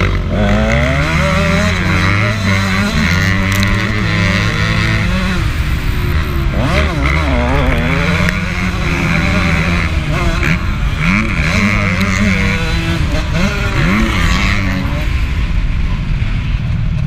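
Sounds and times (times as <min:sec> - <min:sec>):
two-stroke motocross engine revving: 0:00.0 - 0:15.8.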